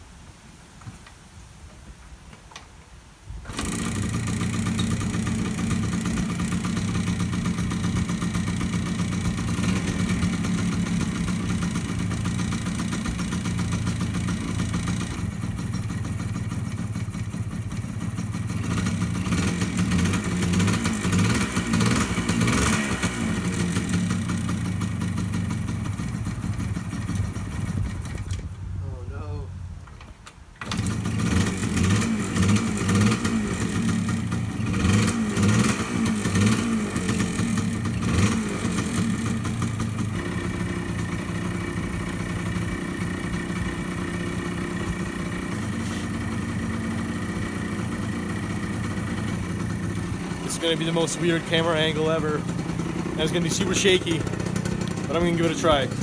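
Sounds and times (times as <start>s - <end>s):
two-stroke engine idling: 3.5s - 28.2s, 30.6s - 56.0s.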